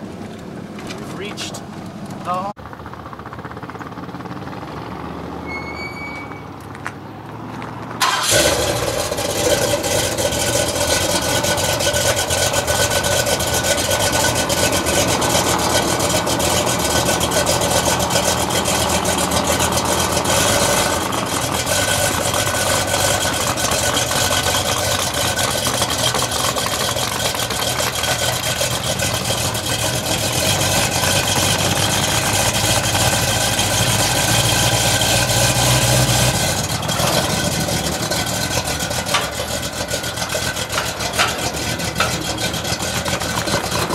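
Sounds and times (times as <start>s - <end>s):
car engine idling: 0.0s - 5.1s, 8.0s - 43.9s.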